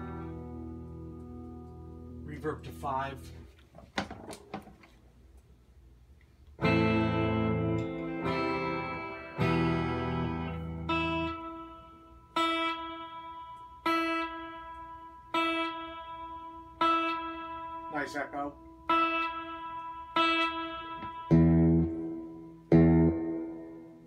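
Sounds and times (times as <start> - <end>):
electric guitar chords with reverb: 0.0 - 2.2, 6.6 - 24.0.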